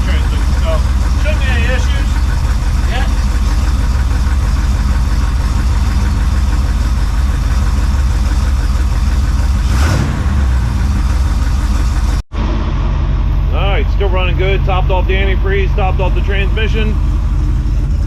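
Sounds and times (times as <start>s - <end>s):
pickup engine idling: 0.0s - 18.0s.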